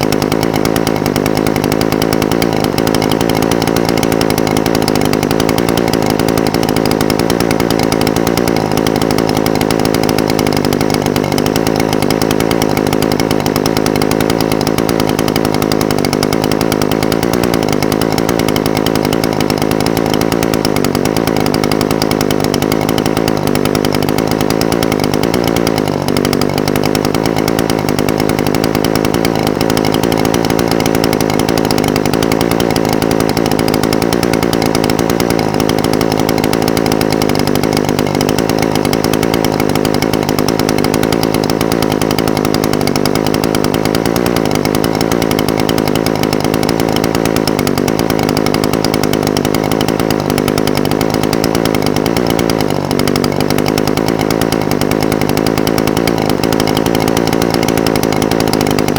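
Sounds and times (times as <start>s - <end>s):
brush cutter engine idling: 0.0s - 58.9s.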